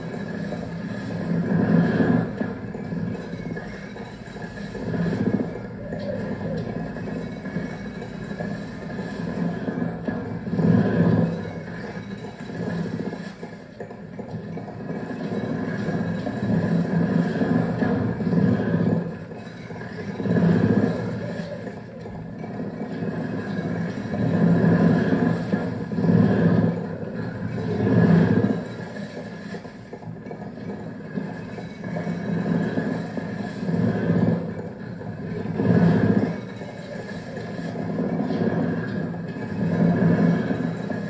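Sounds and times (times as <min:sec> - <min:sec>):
droning cassette tape loops: 0:00.0 - 0:41.0.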